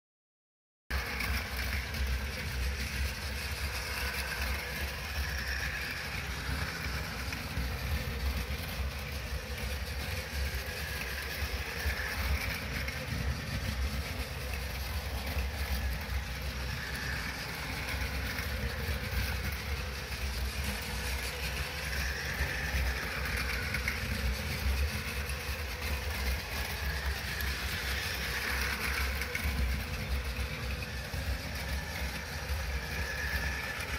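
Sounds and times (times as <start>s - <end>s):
toy train motor whir: 0.9s - 33.9s
toy train wheel rattle: 0.9s - 33.9s.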